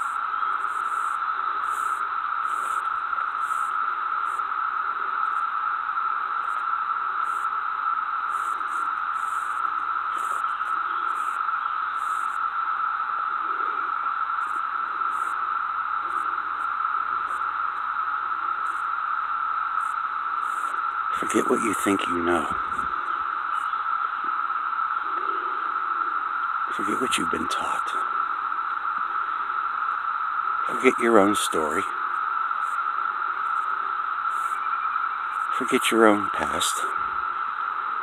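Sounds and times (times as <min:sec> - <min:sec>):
static-like hiss: 0:00.0 - 0:38.0.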